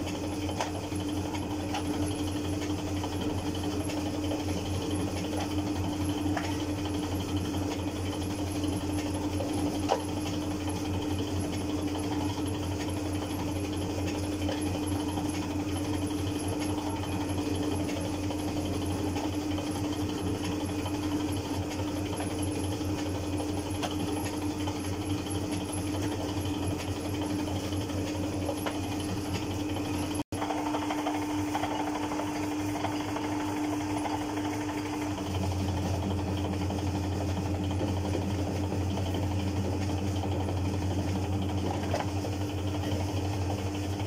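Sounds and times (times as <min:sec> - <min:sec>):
noodle machine running: 0:00.0 - 0:44.0.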